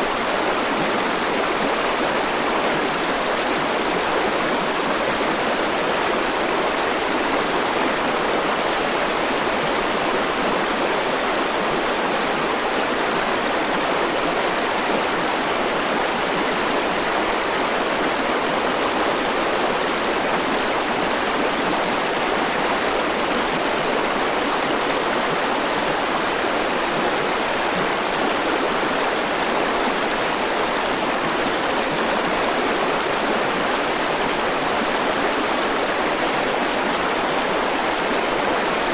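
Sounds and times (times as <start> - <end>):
river water rushing over boulders: 0.0 - 38.9.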